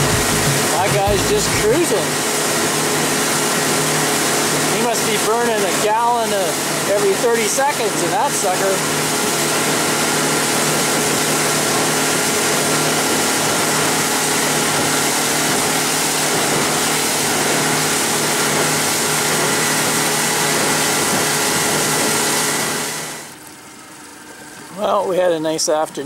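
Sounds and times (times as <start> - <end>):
wind and water rushing: 0.0 - 23.4
outboard motor running: 0.0 - 25.8.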